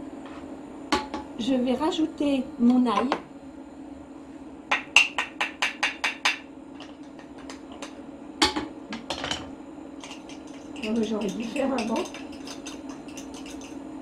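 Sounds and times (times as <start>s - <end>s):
induction hob hum: 0.0s - 14.0s.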